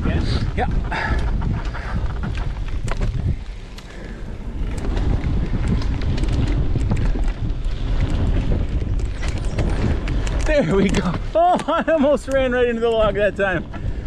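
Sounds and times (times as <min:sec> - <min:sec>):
wind buffeting microphone: 0:00.0 - 0:14.0
bike clicks and rattles: 0:00.1 - 0:14.0.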